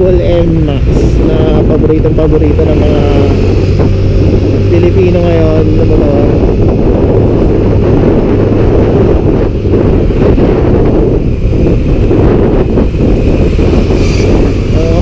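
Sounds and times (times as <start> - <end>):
low engine hum: 0.0 - 15.0
wind buffeting microphone: 0.0 - 15.0.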